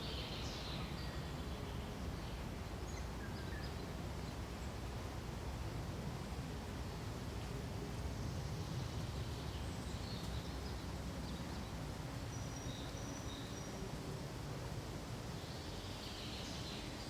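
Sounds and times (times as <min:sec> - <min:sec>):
wind rushing through pine trees: 0:00.0 - 0:17.0.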